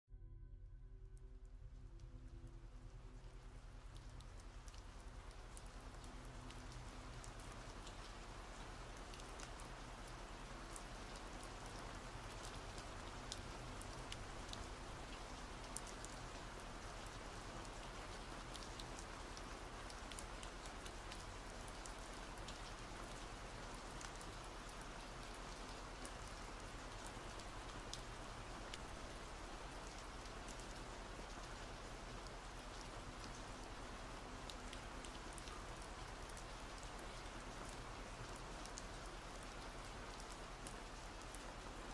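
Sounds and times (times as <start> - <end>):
steady rain falling: 1.2 - 41.9.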